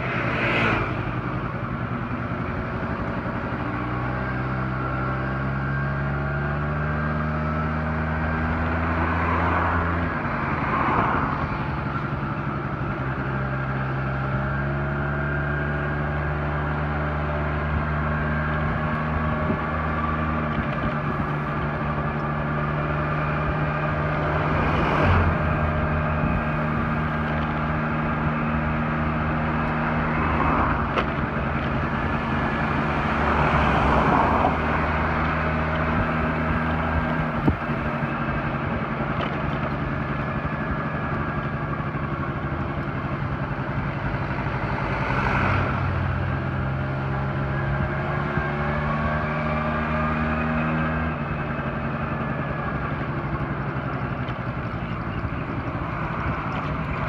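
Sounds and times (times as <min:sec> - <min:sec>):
moped engine running: 0:00.0 - 0:57.0
road and wind noise: 0:00.0 - 0:57.0.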